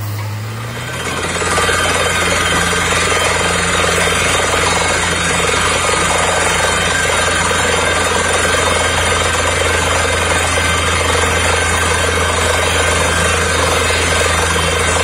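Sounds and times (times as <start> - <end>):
engine and compressor drone: 0.0 - 15.0
rapid drilling chatter: 0.7 - 15.0.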